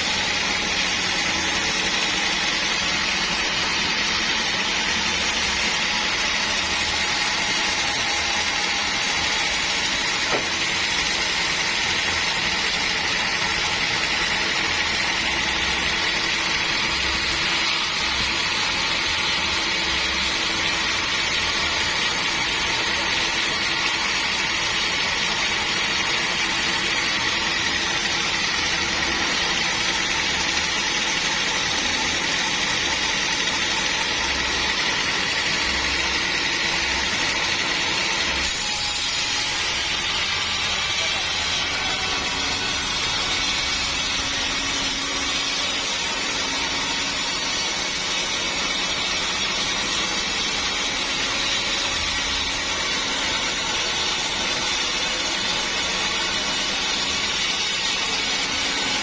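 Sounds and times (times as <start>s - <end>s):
sawmill saw whining: 0.0s - 59.0s.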